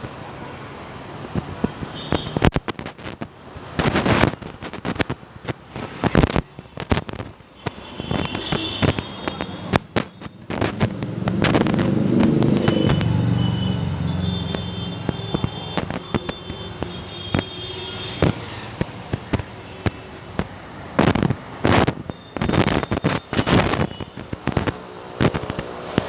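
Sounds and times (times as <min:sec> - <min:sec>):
sharp bangs and pops: 0:01.3 - 0:13.2, 0:14.3 - 0:26.0.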